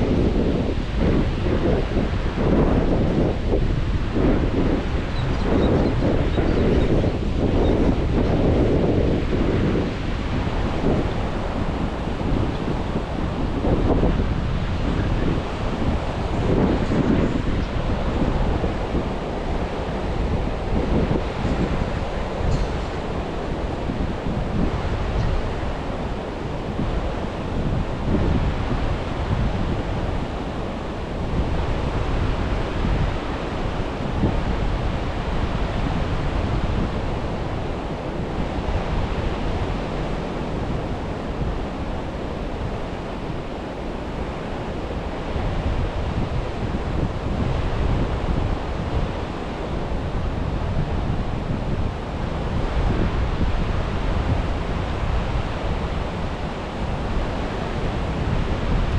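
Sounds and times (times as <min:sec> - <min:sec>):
ocean surf washing onto beach: 0:00.0 - 0:58.9
wind rumbling on microphone: 0:00.0 - 0:58.9.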